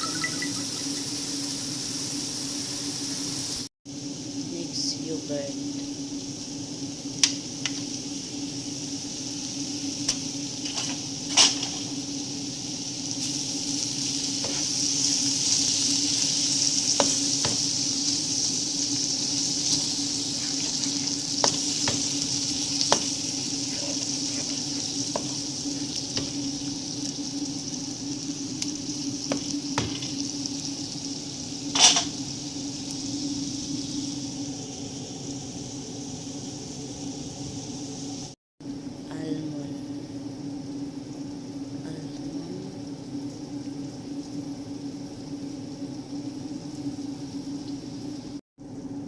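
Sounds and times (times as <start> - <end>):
food sizzling in a pan: 0.0 - 38.8, 39.8 - 49.0.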